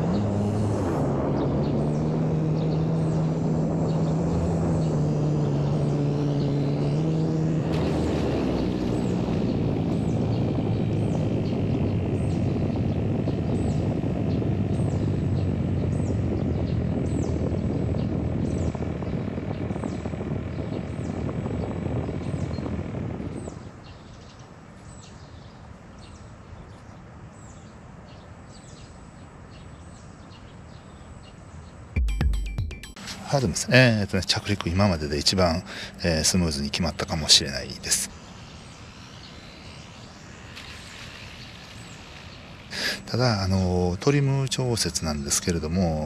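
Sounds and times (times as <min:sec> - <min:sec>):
model plane motor and propeller: 0:00.0 - 0:24.9, 0:33.0 - 0:46.0.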